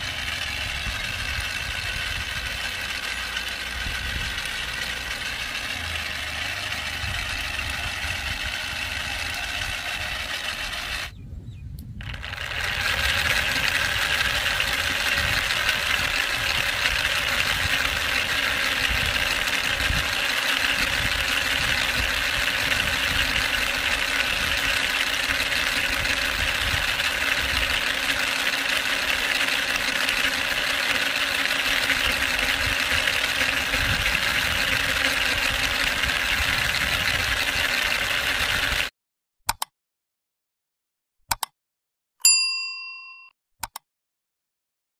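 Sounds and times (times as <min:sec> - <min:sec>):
motor-driven model engine whirring: 0:00.0 - 0:11.2, 0:11.9 - 0:38.9.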